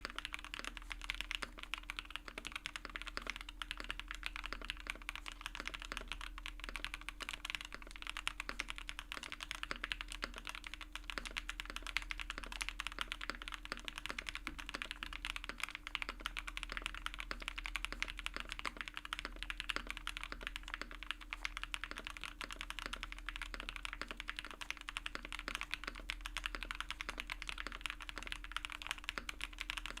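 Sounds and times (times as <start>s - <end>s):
fast mechanical keyboard typing: 0.0s - 30.0s.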